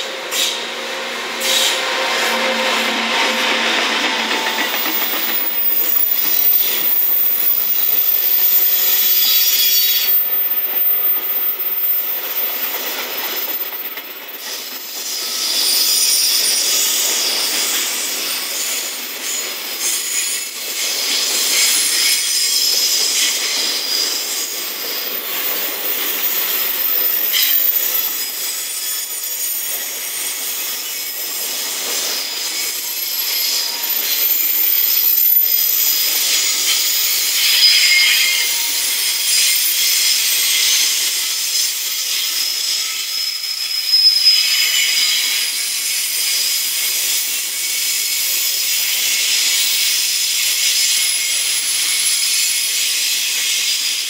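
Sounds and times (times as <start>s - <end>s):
train rolling rumble: 0.0s - 52.5s
train wheels squealing: 0.0s - 54.0s.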